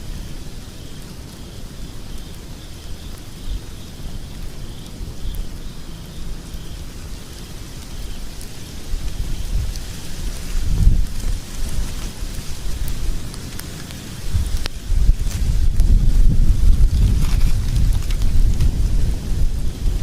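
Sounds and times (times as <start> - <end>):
wood fire burning and crackling: 0.0 - 20.0.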